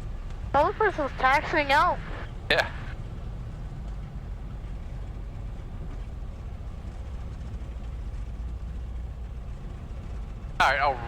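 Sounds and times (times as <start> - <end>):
plane engine idling: 0.0 - 11.0.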